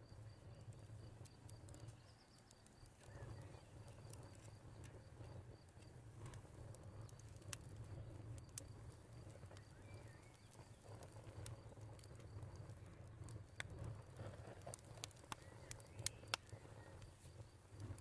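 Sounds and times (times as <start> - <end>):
small clicks and ticks: 0.0 - 18.0.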